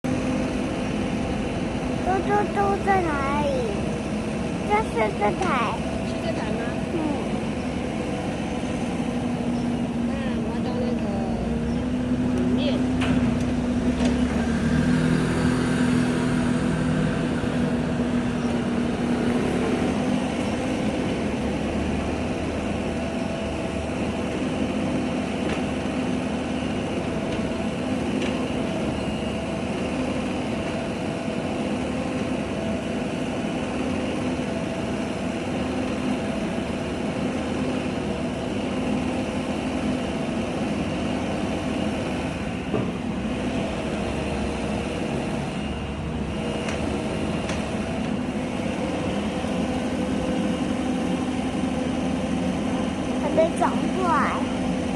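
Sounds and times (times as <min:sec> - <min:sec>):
excavator engine running: 0:00.0 - 0:54.9.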